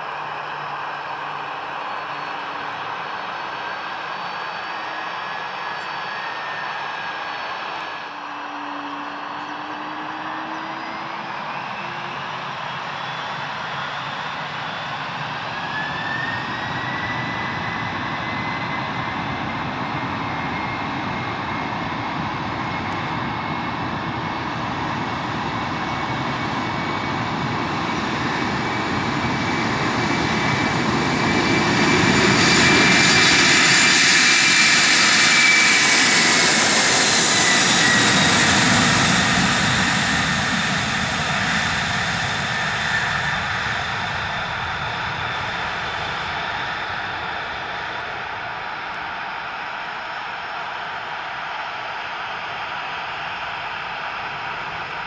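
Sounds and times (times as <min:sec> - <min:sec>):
jet engine fan whine: 0:00.0 - 0:55.0
jet engine roar: 0:00.0 - 0:55.0.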